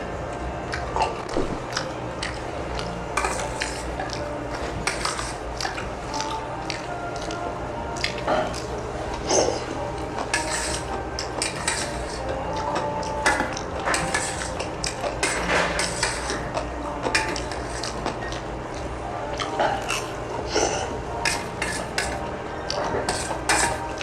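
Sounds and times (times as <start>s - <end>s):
utensils clinking against dishes: 0.7s - 24.0s.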